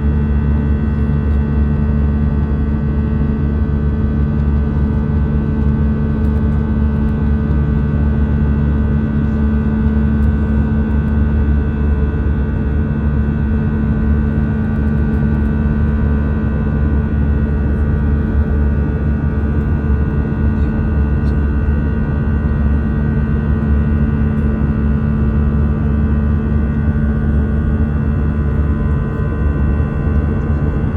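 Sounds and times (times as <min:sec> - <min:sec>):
jet engines droning in cabin: 0:00.0 - 0:30.9.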